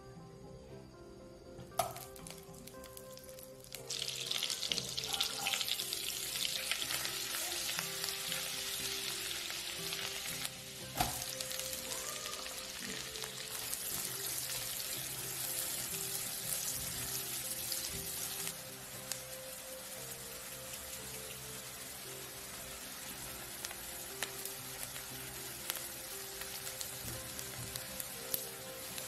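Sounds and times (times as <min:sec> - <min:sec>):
butter and oil sizzling in wok: 0:01.8 - 0:29.0
onion frying while stirred: 0:01.8 - 0:29.0.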